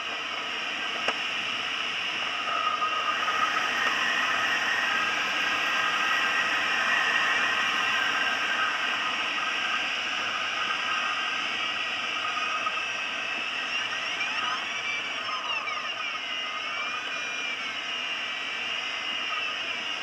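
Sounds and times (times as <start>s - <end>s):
faint thin whistling tones: 0.2s - 20.0s.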